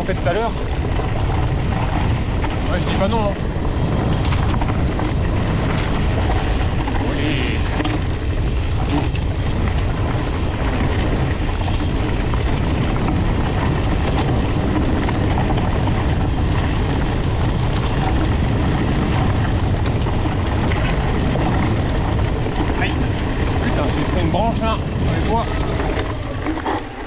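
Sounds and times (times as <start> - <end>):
bike clicks and rattles: 0.0 - 27.0
tyres rumbling on dirt trail: 0.0 - 27.0
wind rushing over microphone: 0.0 - 27.0.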